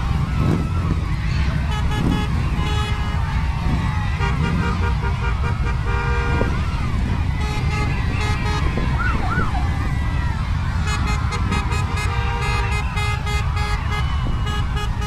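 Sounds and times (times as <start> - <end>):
children cheering: 0.0 - 15.0
horns beeping: 1.4 - 15.0.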